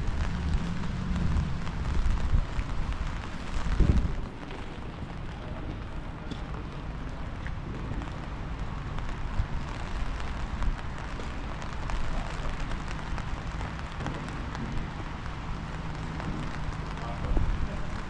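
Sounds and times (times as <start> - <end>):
faint raindrop ticks: 0.0 - 18.0
light rain hiss: 0.0 - 18.0
wind buffeting microphone: 0.0 - 18.0.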